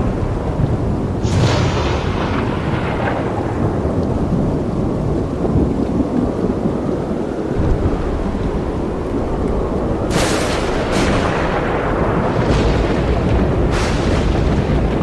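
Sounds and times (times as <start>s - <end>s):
thunder crack and rumble: 0.0s - 15.0s.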